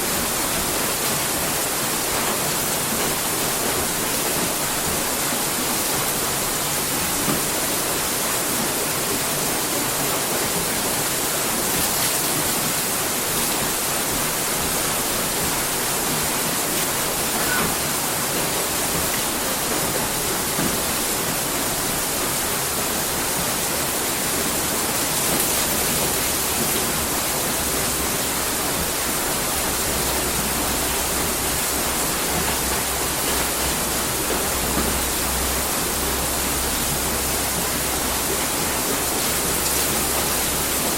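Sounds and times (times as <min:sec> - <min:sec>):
water splashing off mill wheel: 0:00.1 - 0:40.9.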